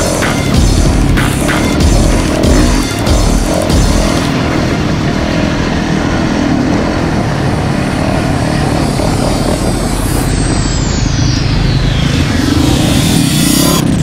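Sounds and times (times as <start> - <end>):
dirt bike engine running: 0.0 - 14.0
loud rushing noise: 0.0 - 14.0.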